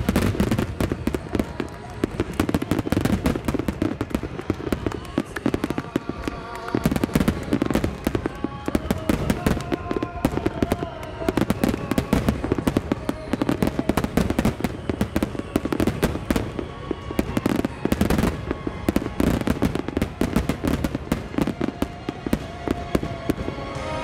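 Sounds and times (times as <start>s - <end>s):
faint music: 0.0s - 24.0s
fireworks launching and bursting: 0.0s - 24.0s.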